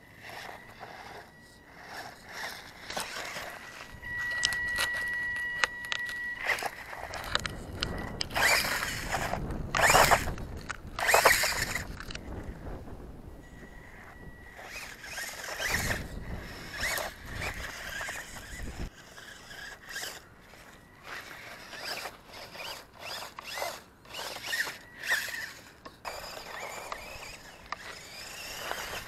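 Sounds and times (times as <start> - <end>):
toy car electric motor whining: 0.0 - 12.6, 13.5 - 29.0.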